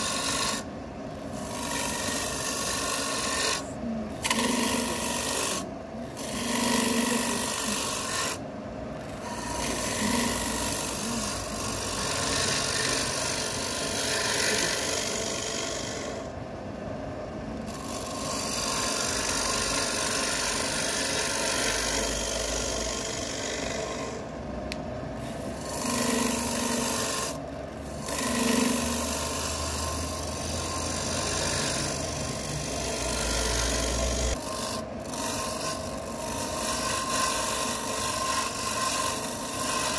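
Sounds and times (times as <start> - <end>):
lathe tool scraping wood: 0.0 - 8.4, 9.0 - 16.3, 17.6 - 24.3, 25.2 - 39.9.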